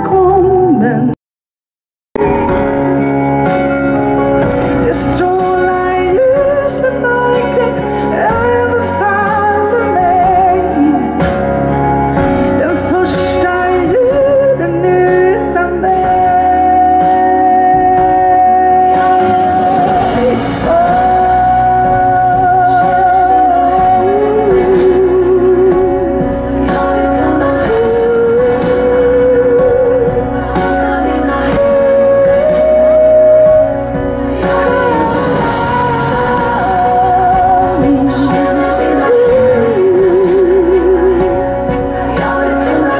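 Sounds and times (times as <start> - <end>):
woman singing into a microphone: 0.0 - 1.2, 2.2 - 3.6, 4.4 - 42.9
instrumental accompaniment: 2.2 - 42.9.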